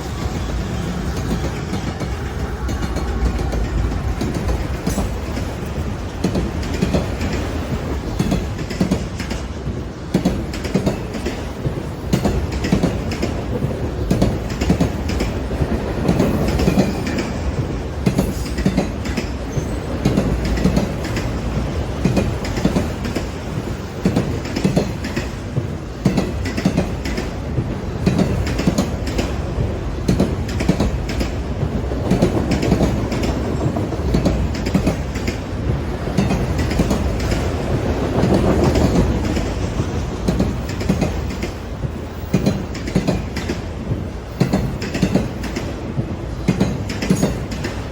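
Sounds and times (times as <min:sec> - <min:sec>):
train rumbling by: 0:00.0 - 0:47.9
wheels clicking over rail joints: 0:00.0 - 0:47.9.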